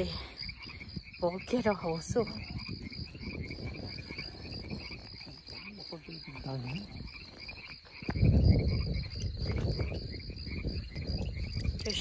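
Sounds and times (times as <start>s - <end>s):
crickets chirping: 0.0s - 12.0s
frogs trilling: 0.0s - 12.0s.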